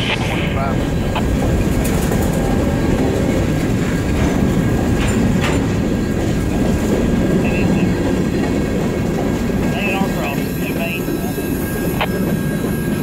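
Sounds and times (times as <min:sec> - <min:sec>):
freight cars rolling past: 0:00.0 - 0:13.0.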